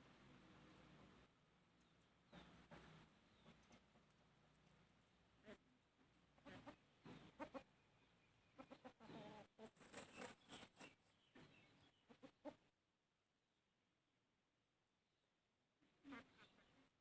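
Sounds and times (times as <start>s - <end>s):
chickens clucking faintly: 0.0s - 13.1s, 15.7s - 17.0s.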